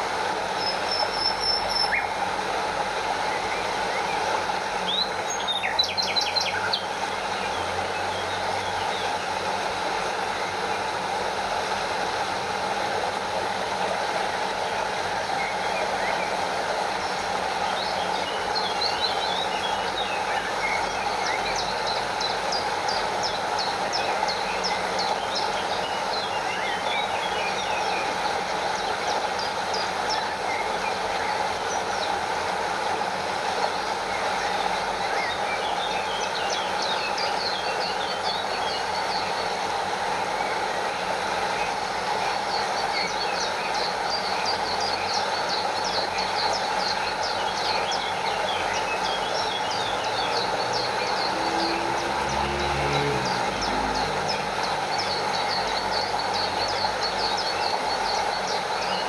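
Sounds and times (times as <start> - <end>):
stream and small waterfall rushing: 0.0 - 59.0.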